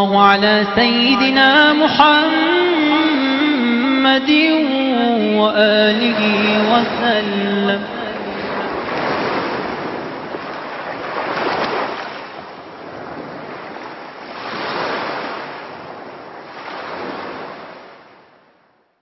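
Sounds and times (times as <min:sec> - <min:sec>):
ocean waves washing: 0:00.0 - 0:18.3.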